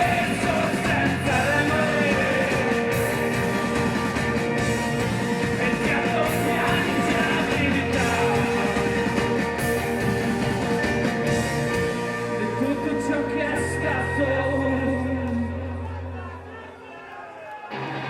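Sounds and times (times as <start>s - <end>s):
punk rock band playing live: 0.0s - 15.8s.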